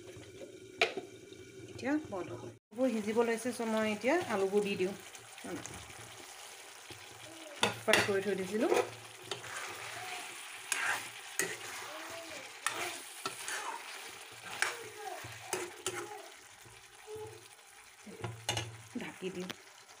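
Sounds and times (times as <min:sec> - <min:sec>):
curry sizzling and bubbling: 0:00.0 - 0:20.0.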